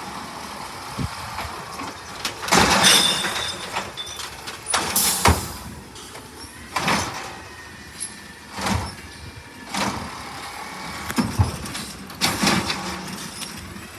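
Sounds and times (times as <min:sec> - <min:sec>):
garbage truck running: 0:00.0 - 0:13.9.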